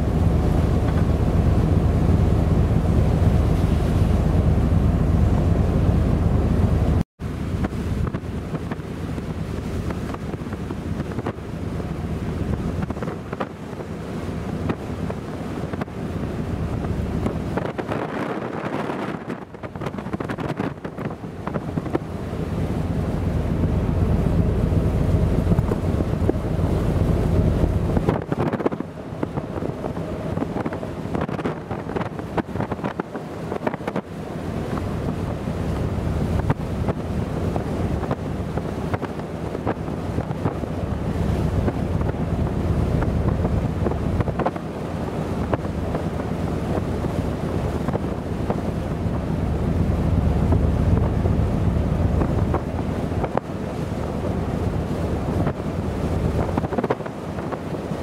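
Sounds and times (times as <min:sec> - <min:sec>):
choppy sea waves: 0:00.0 - 0:58.0
wind buffeting the microphone: 0:00.0 - 0:58.0.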